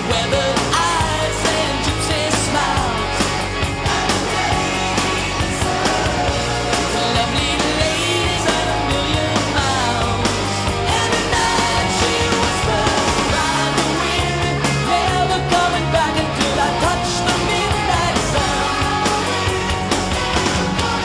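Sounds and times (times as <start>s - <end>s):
man singing: 0.0s - 3.4s, 4.0s - 19.7s, 20.4s - 21.0s
drums: 0.0s - 21.0s
electric guitars: 0.0s - 21.0s
hard rock song: 0.0s - 21.0s.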